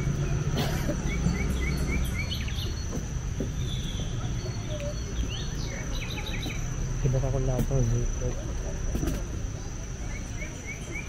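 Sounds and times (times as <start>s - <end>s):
birds calling: 0.0s - 11.0s
high insect drone: 0.0s - 11.0s.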